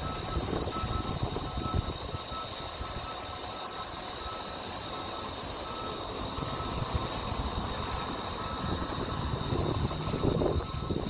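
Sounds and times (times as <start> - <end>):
constant high hiss: 0.0 - 11.0
diesel engine idling: 0.0 - 11.0.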